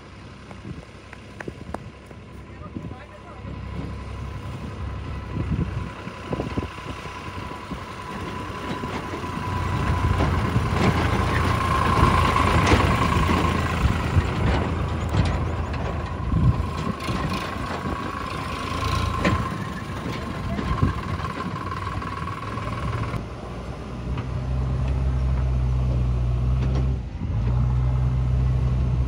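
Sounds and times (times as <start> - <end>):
tractor diesel engine: 0.0 - 29.0.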